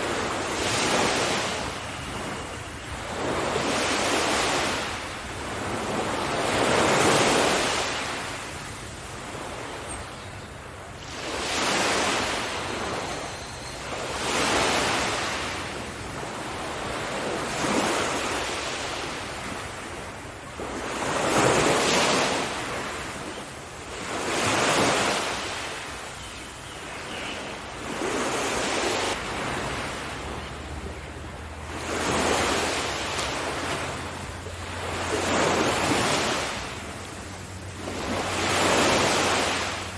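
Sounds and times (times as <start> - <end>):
sea waves breaking: 0.0 - 10.0, 10.6 - 26.2, 26.8 - 39.9.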